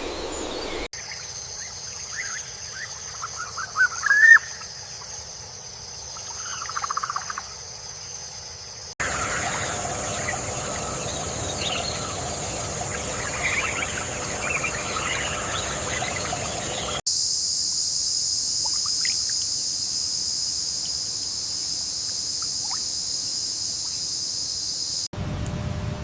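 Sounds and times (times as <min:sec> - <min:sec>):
high-pitched insect chorus: 0:00.0 - 0:25.1.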